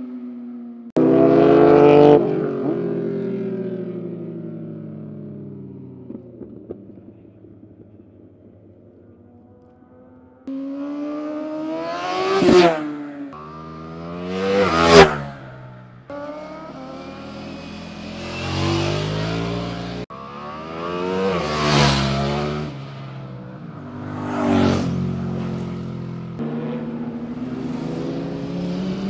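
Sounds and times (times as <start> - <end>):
sport motorcycles passing by: 0.0 - 29.0.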